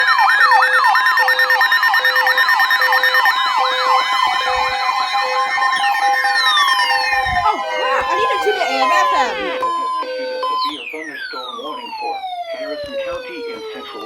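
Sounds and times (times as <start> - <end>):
steady alert tones: 0.0 - 11.7
low pulsing beep: 0.0 - 12.2
electronic sirens wailing: 0.0 - 14.0.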